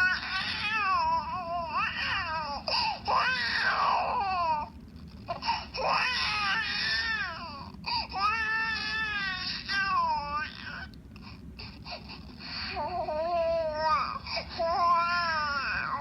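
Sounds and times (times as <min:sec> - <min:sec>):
infant crying: 0:00.0 - 0:04.7, 0:05.3 - 0:10.9, 0:11.6 - 0:16.0.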